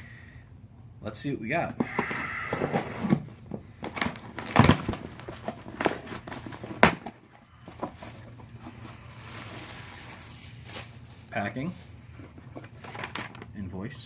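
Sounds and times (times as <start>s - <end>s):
packing material rustling: 1.9s - 13.5s.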